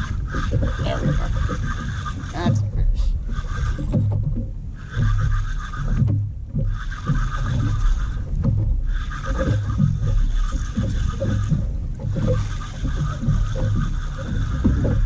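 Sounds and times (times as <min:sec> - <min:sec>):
fishing reel gears whining: 0:00.0 - 0:15.0
steady low rumble: 0:00.0 - 0:15.0.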